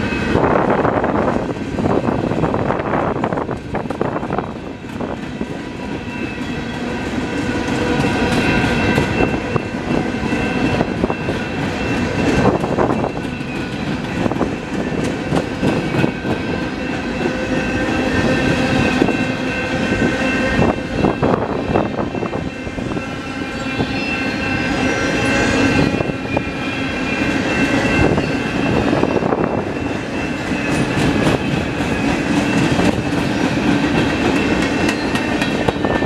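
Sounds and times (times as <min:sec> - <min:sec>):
freight train rumbling past: 0:00.0 - 0:36.0
wheels clacking on rails: 0:00.0 - 0:36.0.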